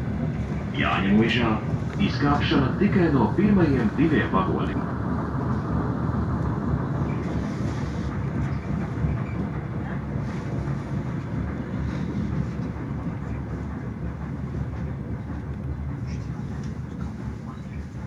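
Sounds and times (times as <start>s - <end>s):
train engine and wheels rumbling: 0.0s - 18.0s.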